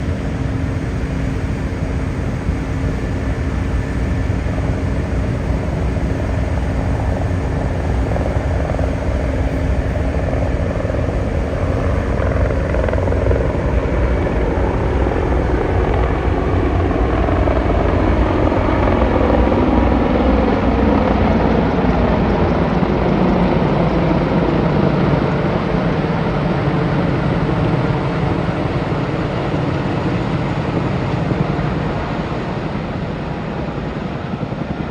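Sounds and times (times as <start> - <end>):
aircraft engine rumble: 0.0 - 34.9.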